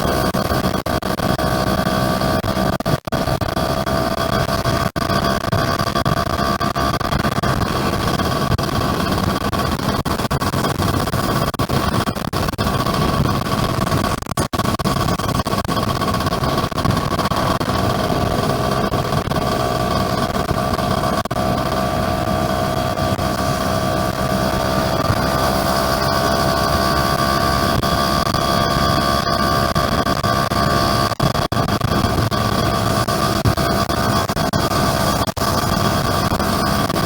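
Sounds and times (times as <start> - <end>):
two-stroke engine running: 0.0 - 11.8, 14.8 - 37.0.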